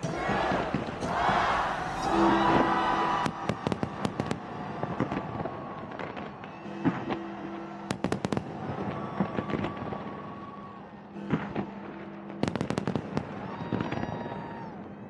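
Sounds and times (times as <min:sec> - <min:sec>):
fireworks bangs and crackles: 0:02.5 - 0:15.0.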